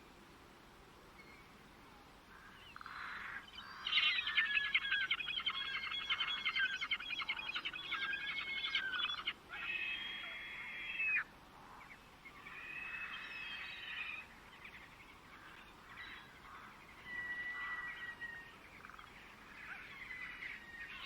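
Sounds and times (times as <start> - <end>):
songbird warbling: 2.3 - 21.0.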